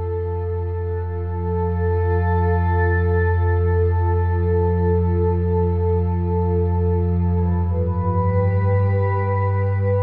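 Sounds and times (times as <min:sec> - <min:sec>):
ambient music sustained chord: 0:00.0 - 0:10.0.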